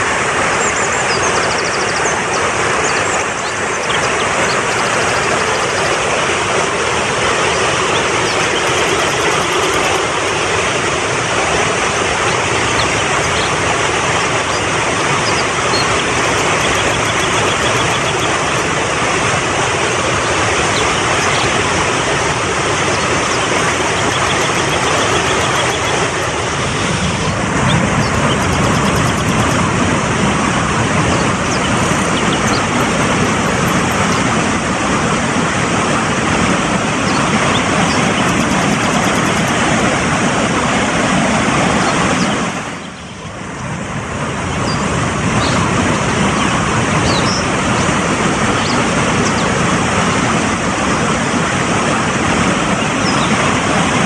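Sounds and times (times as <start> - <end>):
stream rushing over rocks: 0.0 - 42.8, 43.4 - 54.0.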